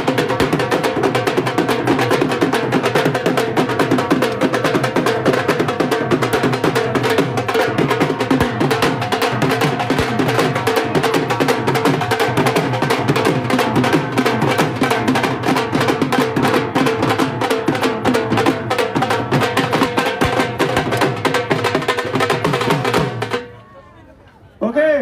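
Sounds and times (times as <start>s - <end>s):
music with fast drum beat: 0.0s - 23.5s.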